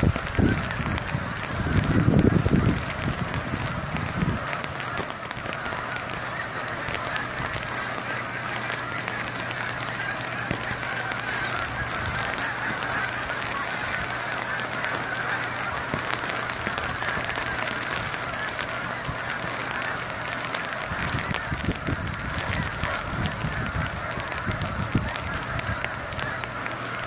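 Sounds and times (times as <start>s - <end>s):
wind buffeting microphone: 0.0s - 26.4s
geese honking: 0.0s - 27.0s
rain: 0.0s - 27.0s.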